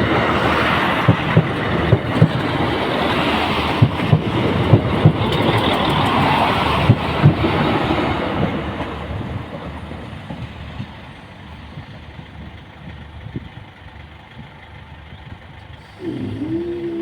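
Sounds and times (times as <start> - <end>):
diesel train rumble: 0.0 - 17.0.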